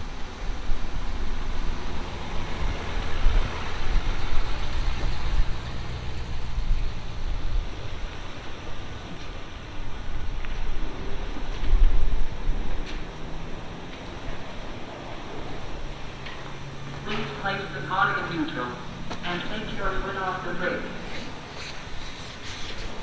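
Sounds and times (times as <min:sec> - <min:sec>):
car wash spray and machinery: 0:00.0 - 0:23.0.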